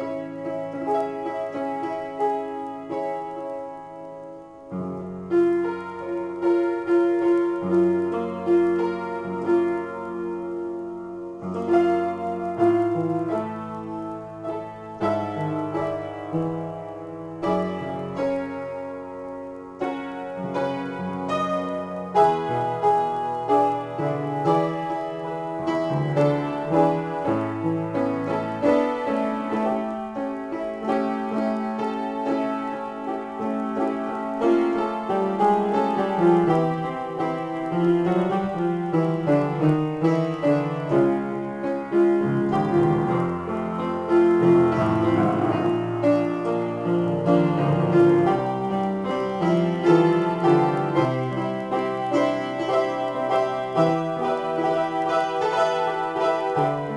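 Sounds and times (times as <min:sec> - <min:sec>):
piano improvisation: 0:00.0 - 0:56.9.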